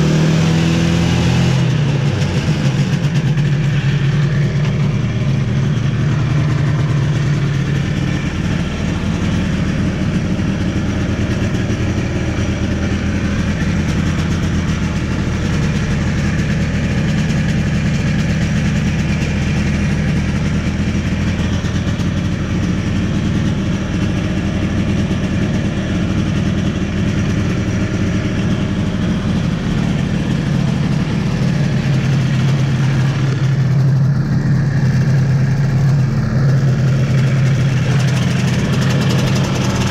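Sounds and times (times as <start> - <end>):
snowmobile engine idling: 0.0 - 39.9.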